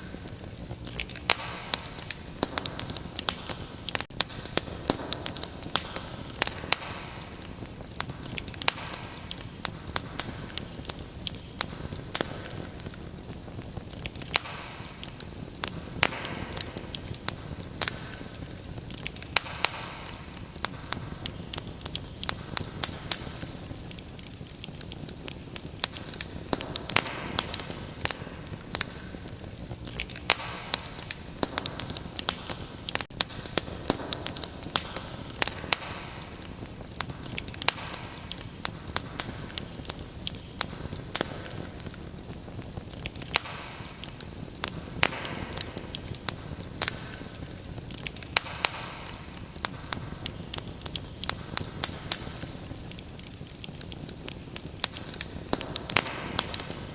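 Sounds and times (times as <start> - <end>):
fire crackling and popping: 0.0 - 56.9
hiss and rumble of flames: 0.0 - 56.9.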